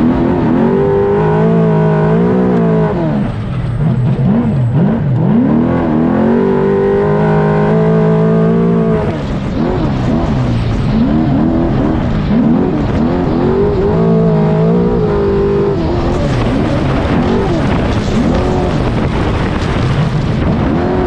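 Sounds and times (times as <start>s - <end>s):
engine revving at high revs: 0.0s - 3.2s, 3.8s - 21.0s.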